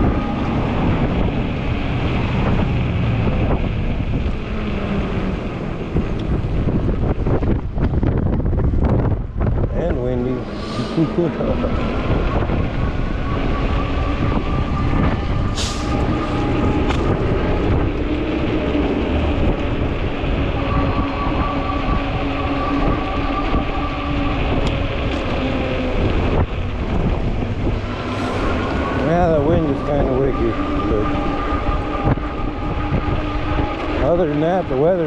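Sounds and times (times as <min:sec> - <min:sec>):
electric hub motor whine: 0:00.0 - 0:35.0
wind buffeting microphone: 0:00.0 - 0:35.0.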